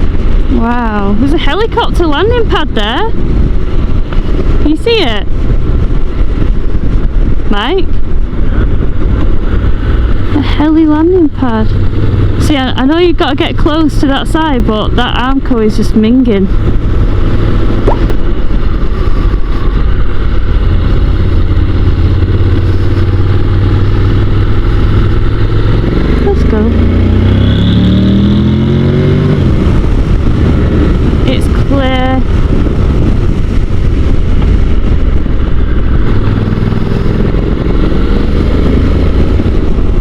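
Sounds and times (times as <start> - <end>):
motorcycle engine running: 0.0 - 40.0
wind rumble on microphone: 0.0 - 40.0.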